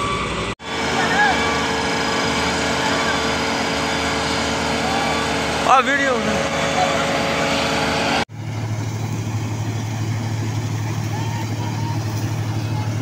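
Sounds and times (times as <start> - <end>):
combine harvester deep hum: 0.0 - 13.0
combine harvester mechanical drone: 0.0 - 13.0.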